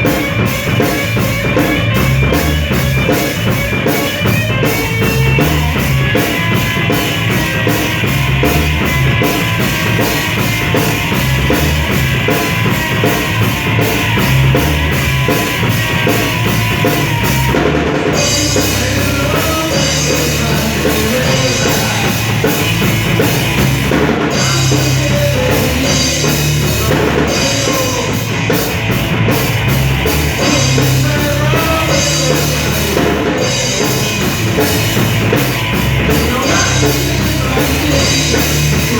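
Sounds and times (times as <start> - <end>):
loud rock music: 0.0 - 38.9.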